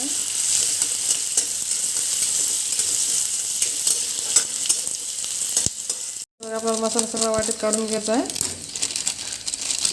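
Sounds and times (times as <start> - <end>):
onion sizzling in oil: 0.0 - 9.9.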